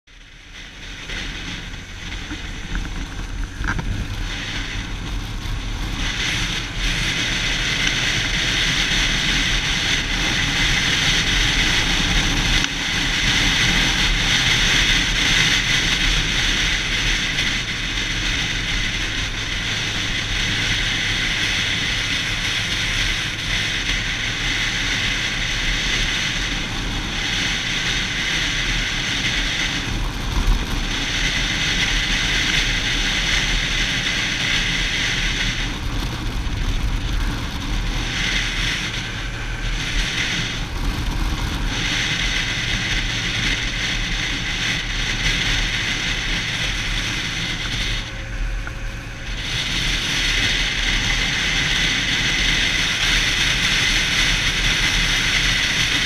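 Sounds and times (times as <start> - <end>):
motorcycle engine at road speed: 0.0 - 56.0
wind noise rushing: 0.7 - 56.0.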